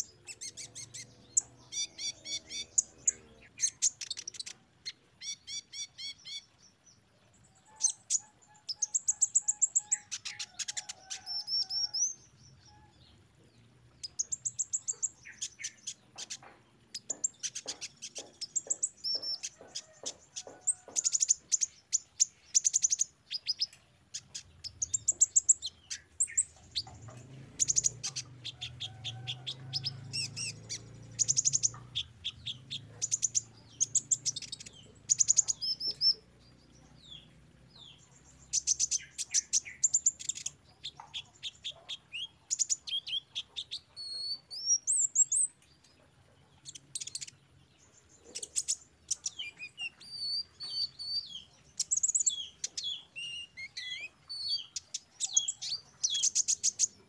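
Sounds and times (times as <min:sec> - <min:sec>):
bird chirping trills: 0:00.0 - 0:57.0.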